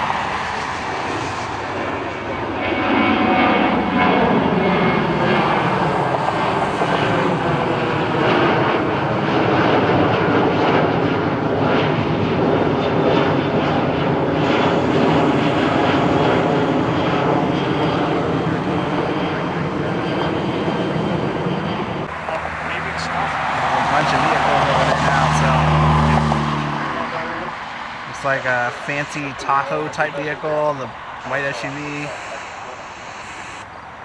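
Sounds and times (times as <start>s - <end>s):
jet airliner engines roaring: 0.0s - 34.0s.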